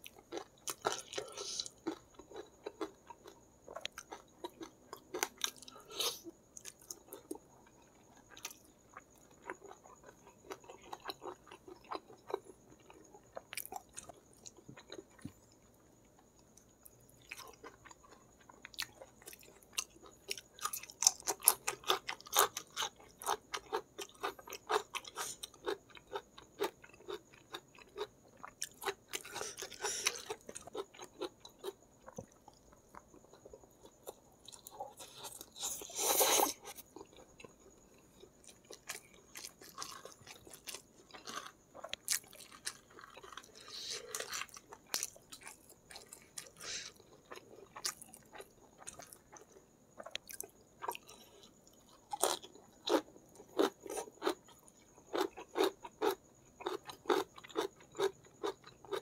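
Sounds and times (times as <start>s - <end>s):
chewing crunchy raw vegetables: 0.0s - 59.0s.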